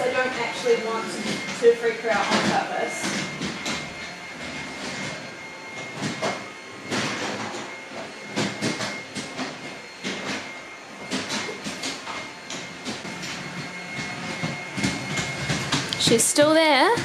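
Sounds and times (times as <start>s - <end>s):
stick vacuum whining: 0.0s - 17.0s.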